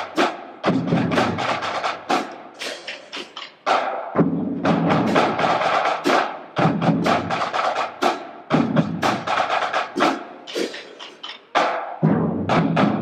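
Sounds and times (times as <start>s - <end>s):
marching bass drums: 0.0s - 13.0s
sharp percussion hits: 0.0s - 13.0s.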